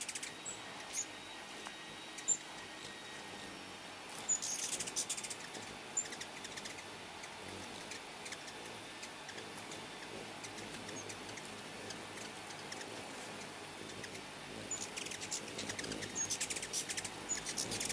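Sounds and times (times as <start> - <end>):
hummingbirds chipping: 0.0 - 17.9.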